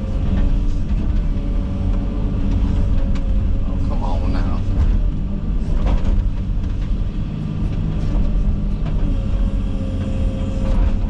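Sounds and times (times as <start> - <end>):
excavator diesel engine: 0.0 - 11.0.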